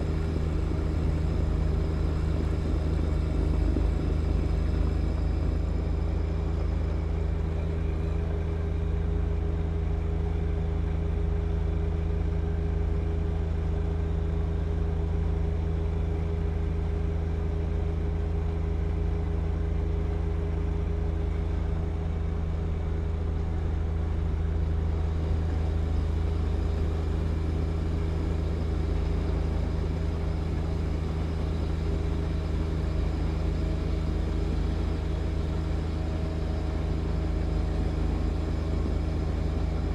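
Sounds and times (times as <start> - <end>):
tractor diesel engine running: 0.0 - 10.8, 14.9 - 39.9.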